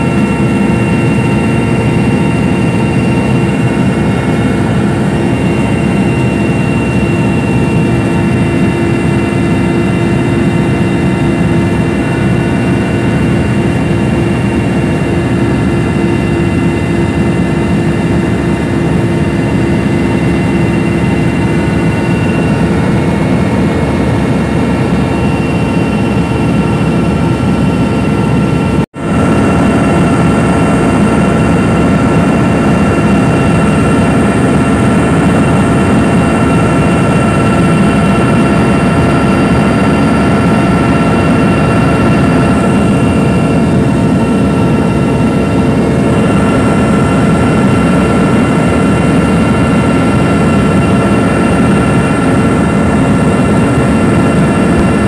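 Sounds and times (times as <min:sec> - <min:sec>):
helicopter engines and rotor drone: 0:00.0 - 0:55.0.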